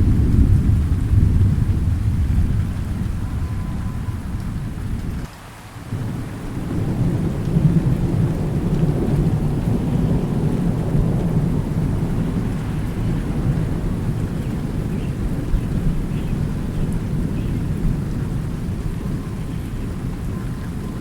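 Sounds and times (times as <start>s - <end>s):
thunder rumbling: 0.0s - 5.3s, 5.9s - 21.0s
steady rain: 0.0s - 21.0s.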